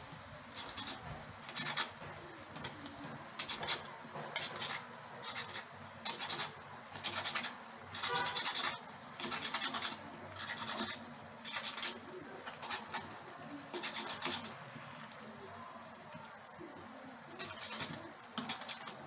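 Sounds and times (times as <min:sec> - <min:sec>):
oil sizzling: 0:00.0 - 0:19.0
spatula scraping in a wok: 0:00.4 - 0:14.8, 0:17.4 - 0:19.0.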